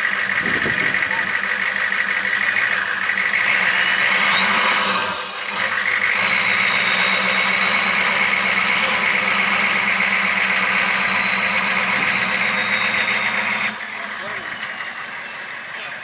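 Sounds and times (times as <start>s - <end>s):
truck engine running with whine: 0.0s - 16.0s.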